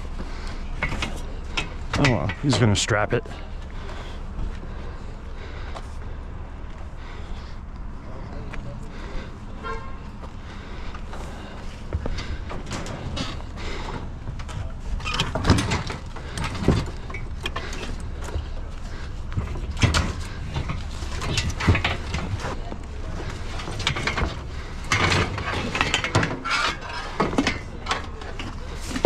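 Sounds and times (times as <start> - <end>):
scrap metal clanking and rattling: 0.0 - 4.0, 8.9 - 29.0.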